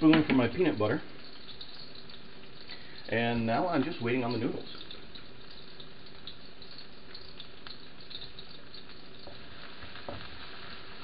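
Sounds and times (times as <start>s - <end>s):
faint crackles: 0.0s - 11.0s
onions sizzling in a frying pan: 0.0s - 11.0s.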